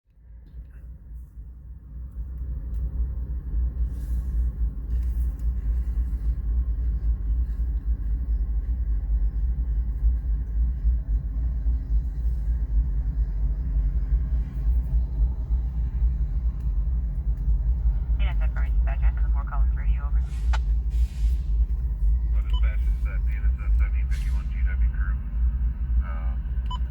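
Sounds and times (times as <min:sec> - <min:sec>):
diesel locomotives rumbling: 0:00.2 - 0:26.9.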